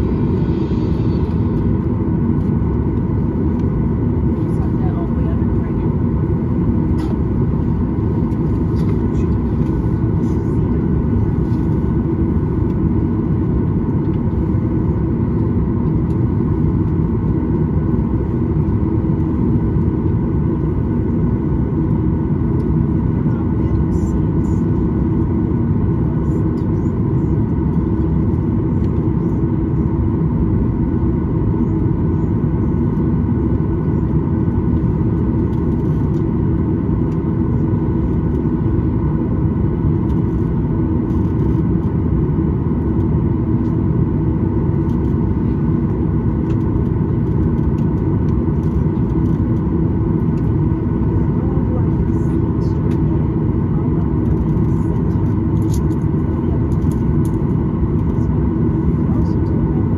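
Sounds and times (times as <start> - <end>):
aircraft cabin drone: 0.0 - 59.9
steady hums: 0.0 - 59.9.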